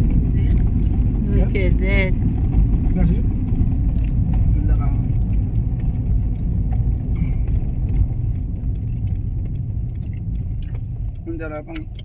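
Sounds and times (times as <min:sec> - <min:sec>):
car road and engine rumble: 0:00.0 - 0:12.0
faint clicks and rattles: 0:00.0 - 0:12.0.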